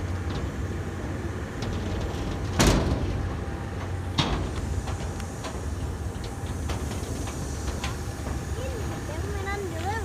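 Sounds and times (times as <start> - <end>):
loud clanks: 0.0 - 9.6
steady low rumble: 0.0 - 10.0.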